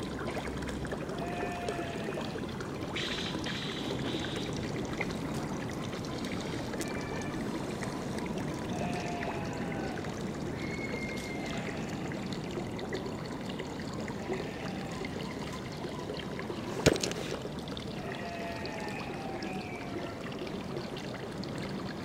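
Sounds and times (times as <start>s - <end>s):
pool water trickling: 0.0s - 22.0s.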